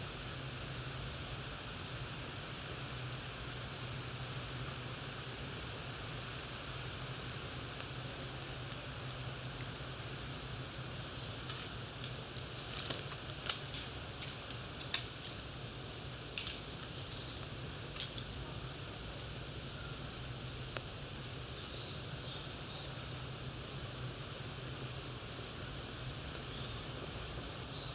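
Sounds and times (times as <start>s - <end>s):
campfire crackling and popping: 0.0s - 27.9s.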